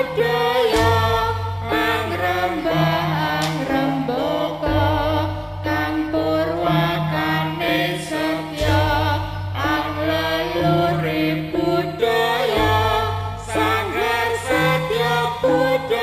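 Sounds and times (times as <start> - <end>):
long low tones: 0.0 - 16.0
person singing chant-like vocals: 0.0 - 16.0
traditional instrumental music: 0.0 - 16.0.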